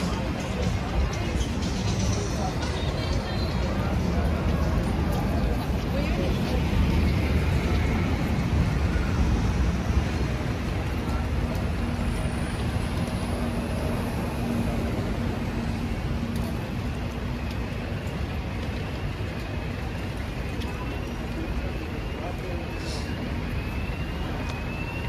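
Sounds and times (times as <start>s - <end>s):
buses and cars passing: 0.0s - 25.0s.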